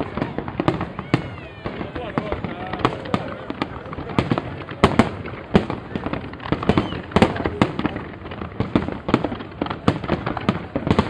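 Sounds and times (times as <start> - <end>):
fireworks bangs: 0.0 - 11.0
rumbling crackle: 0.0 - 11.0.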